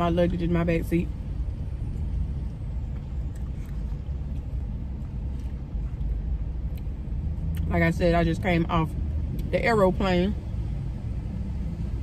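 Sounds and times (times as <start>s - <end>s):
car idling rumble: 0.0s - 12.0s.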